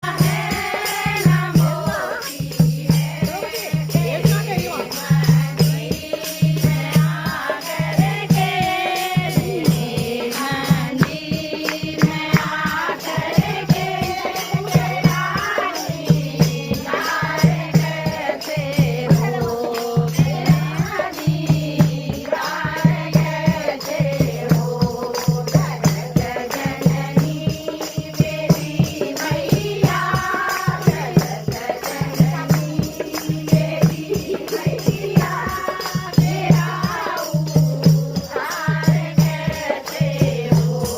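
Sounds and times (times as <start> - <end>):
voices singing devotional song: 0.0 - 40.9.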